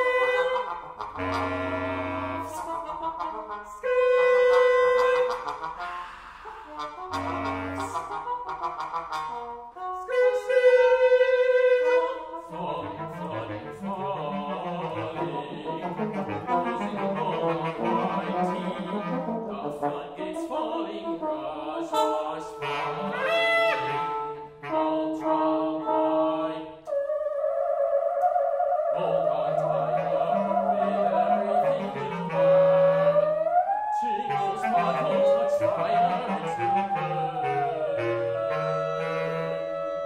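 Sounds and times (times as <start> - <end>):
brass and clarinet held tones: 0.0 - 40.0.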